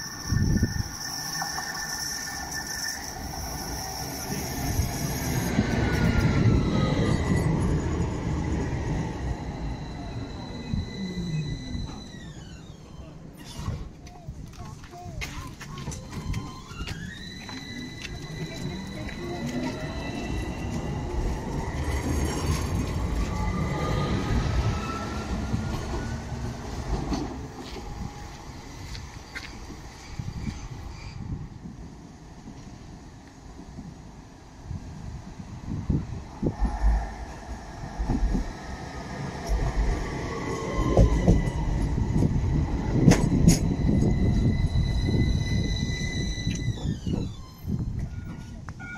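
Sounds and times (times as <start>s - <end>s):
tram motor whine rising: 0.0s - 13.4s, 16.0s - 31.1s, 36.2s - 48.1s
tram wheels rumbling on rails: 0.0s - 48.9s.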